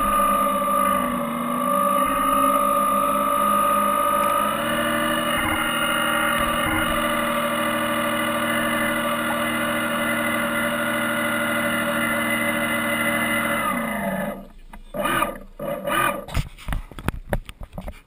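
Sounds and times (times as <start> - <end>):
motor whining: 0.0 - 16.3.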